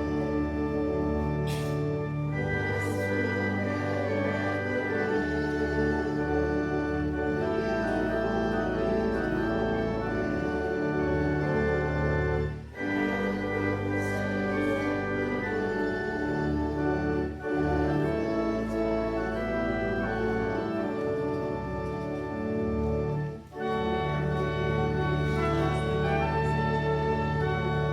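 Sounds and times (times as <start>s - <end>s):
church organ playing a hymn: 0.0s - 27.9s.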